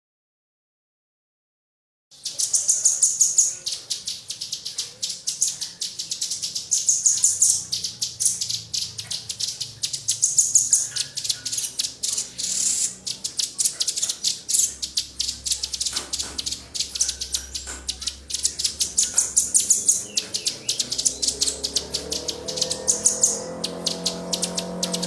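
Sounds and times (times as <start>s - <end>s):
songbirds chipping and trilling: 2.1s - 25.0s.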